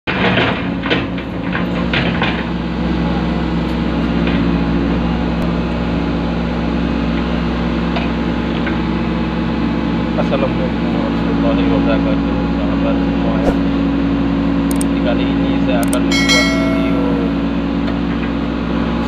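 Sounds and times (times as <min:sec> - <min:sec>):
diesel engine running: 0:00.2 - 0:19.0.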